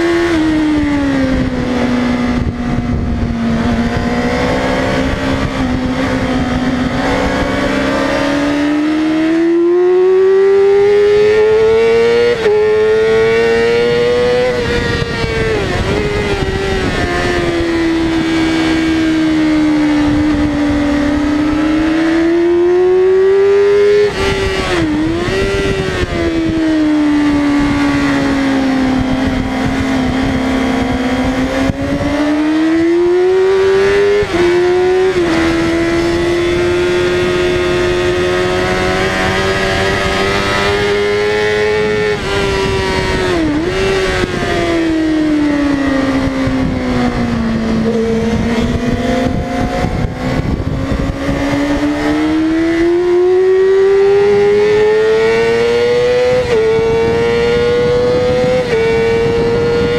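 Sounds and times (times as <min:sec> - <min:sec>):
motorcycle engine at racing pace: 0:00.0 - 0:59.9.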